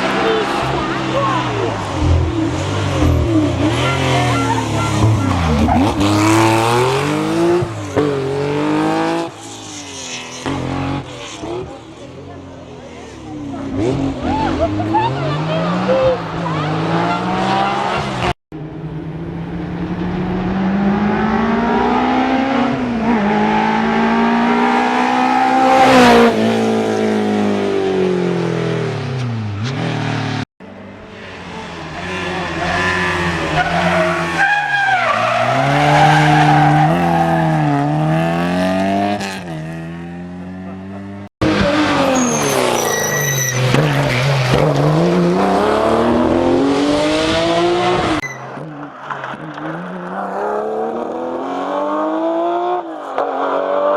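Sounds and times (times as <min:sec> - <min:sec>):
rally cars at full throttle: 0:00.0 - 0:53.9.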